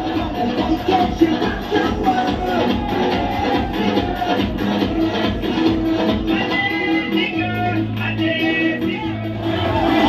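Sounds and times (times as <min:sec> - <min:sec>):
loud dance music: 0:00.0 - 0:10.0.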